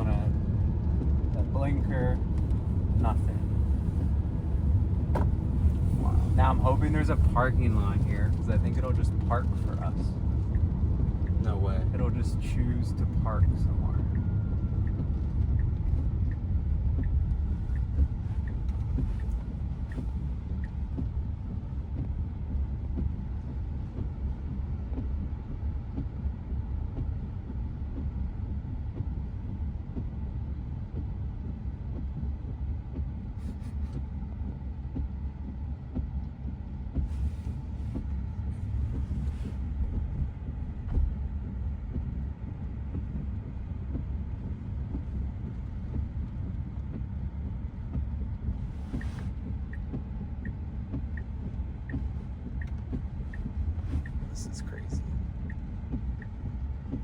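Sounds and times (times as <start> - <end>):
road and tyre rumble in cabin: 0.0 - 57.0.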